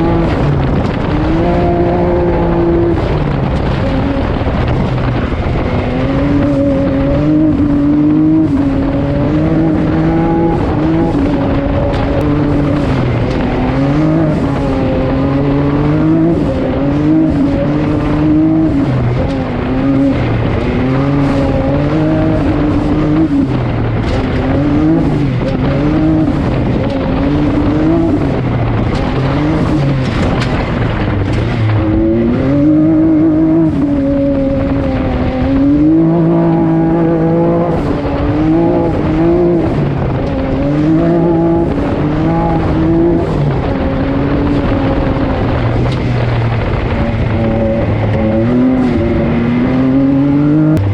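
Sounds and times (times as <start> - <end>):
off-road engine revving: 0.0 - 50.9
terrain and wind noise: 0.0 - 50.9.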